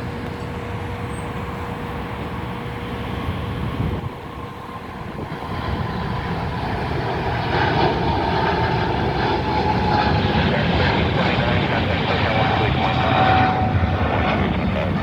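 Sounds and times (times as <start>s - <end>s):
jet engines on takeoff: 0.0s - 15.0s.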